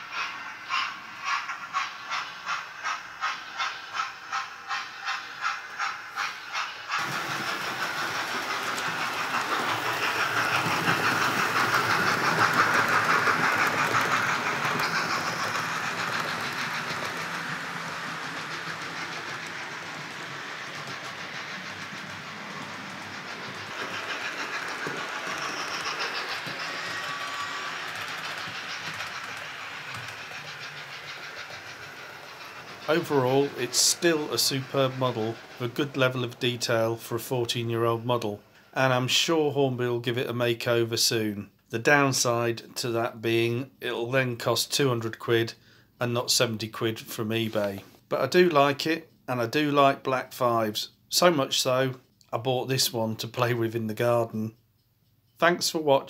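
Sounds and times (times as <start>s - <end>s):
model steam train chuffs: 0.0s - 54.5s
model train running noise: 0.0s - 54.5s.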